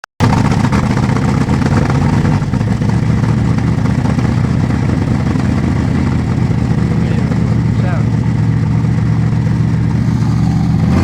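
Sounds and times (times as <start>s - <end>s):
loud engine idling: 0.2s - 11.0s.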